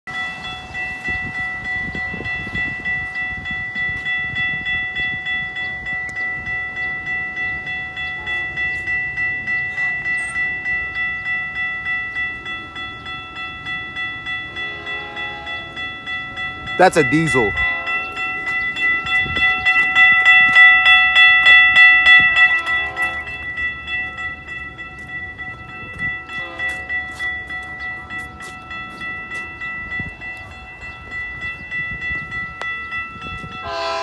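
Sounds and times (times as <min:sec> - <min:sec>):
railroad crossing bell ringing: 0:00.1 - 0:34.0.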